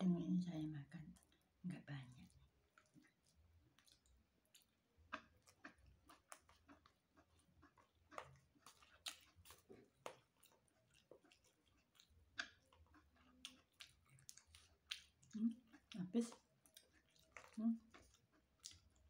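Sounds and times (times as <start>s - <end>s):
faint chewing and mouth noises: 0.5s - 19.0s
soft mouth clicks and smacks: 2.2s - 19.0s.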